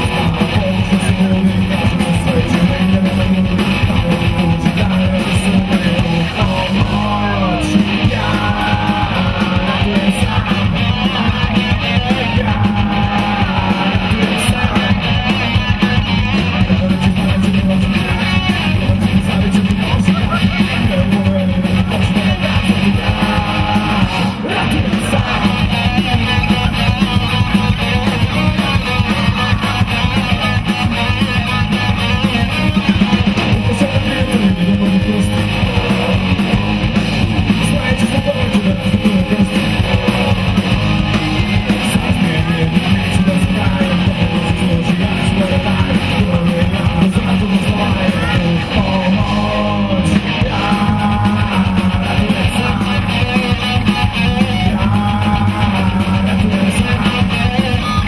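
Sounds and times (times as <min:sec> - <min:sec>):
bass guitar: 0:00.0 - 0:58.0
drums: 0:00.0 - 0:58.0
electric guitars: 0:00.0 - 0:58.0.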